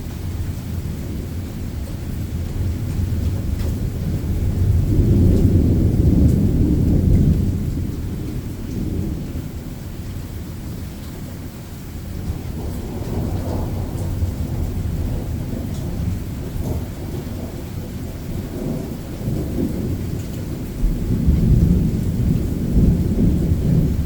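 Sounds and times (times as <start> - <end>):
rolling thunder: 0.0 - 11.0, 12.0 - 24.0
rain falling: 0.0 - 24.0.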